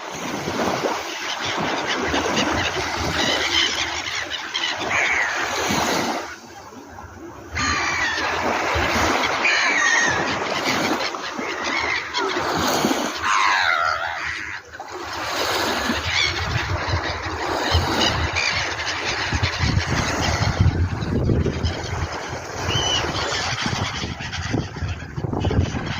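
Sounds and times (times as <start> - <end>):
gulls calling: 0.0 - 25.9.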